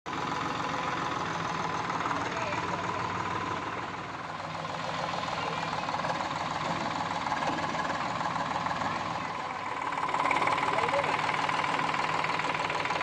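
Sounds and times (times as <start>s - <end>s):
diesel tractor engine knocking: 0.1s - 13.0s.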